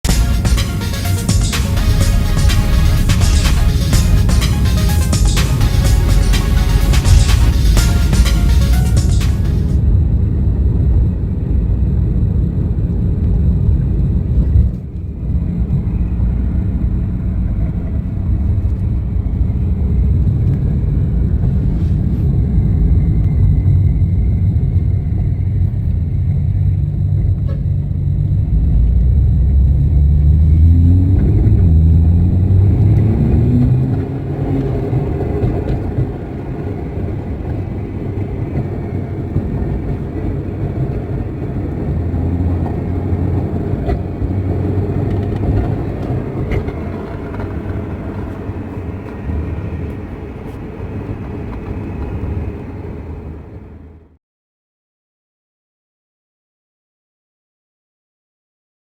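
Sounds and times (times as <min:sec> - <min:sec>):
car engine rumbling and revving: 0:00.0 - 0:51.0.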